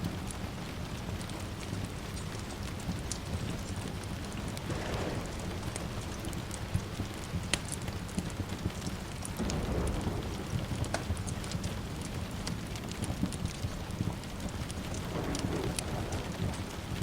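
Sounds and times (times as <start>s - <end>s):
steady rain falling: 0.0s - 17.0s
wood fire crackling and popping: 0.0s - 17.0s.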